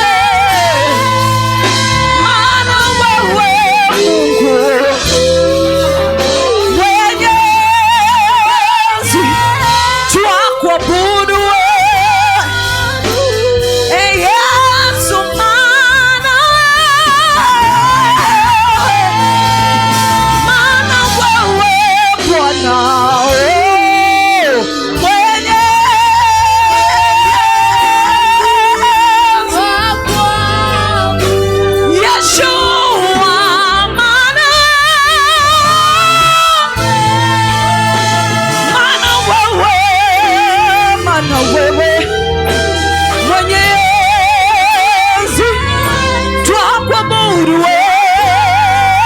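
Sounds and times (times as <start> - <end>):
backing instruments with bass: 0.0 - 49.0
person singing with vibrato: 0.0 - 49.0.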